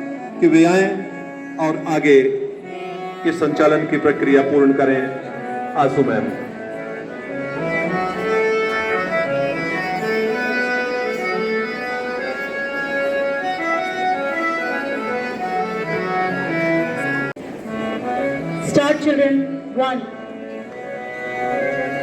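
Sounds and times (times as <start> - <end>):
reedy keyboard playing held chords: 0.0 - 22.0.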